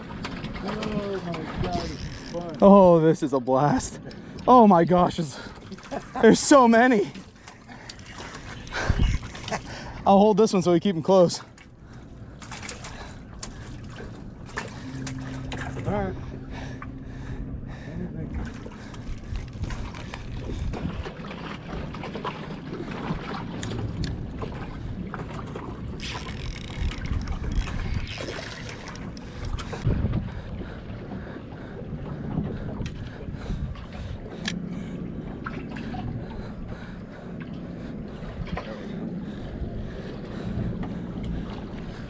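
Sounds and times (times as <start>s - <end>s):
wind buffeting microphone: 0.0s - 3.0s, 8.1s - 10.0s, 12.9s - 42.0s
low steady hum: 0.0s - 42.0s
water sloshing against hull: 0.0s - 42.0s.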